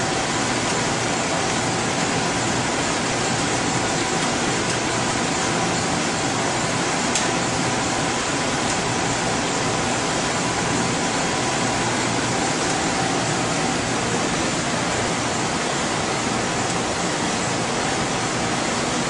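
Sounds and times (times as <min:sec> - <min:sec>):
ventilation and cooling fans hissing: 0:00.0 - 0:19.0.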